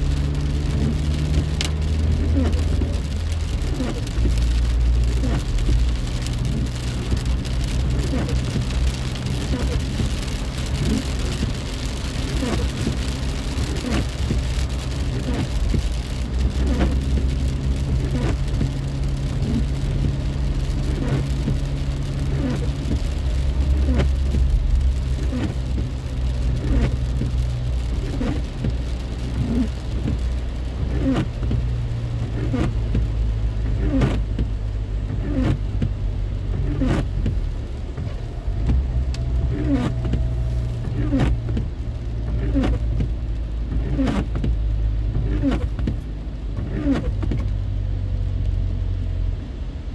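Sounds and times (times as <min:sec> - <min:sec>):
car cabin road rumble: 0:00.0 - 0:49.9
rain tapping on car: 0:00.0 - 0:49.9.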